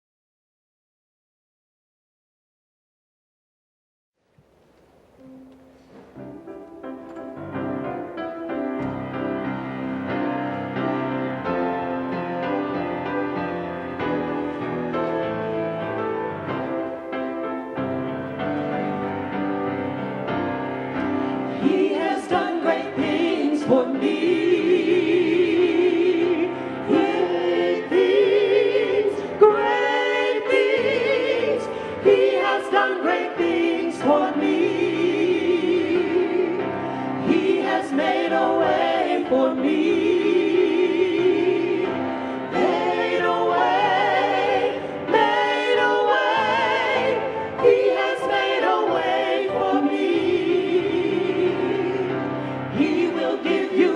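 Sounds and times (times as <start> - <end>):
church choir singing: 5.2 - 53.9.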